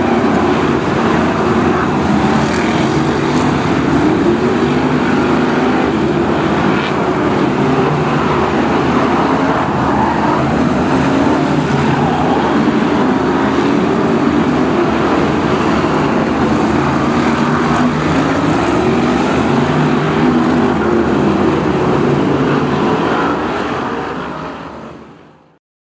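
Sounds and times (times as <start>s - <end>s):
racing car engines: 0.0s - 25.6s.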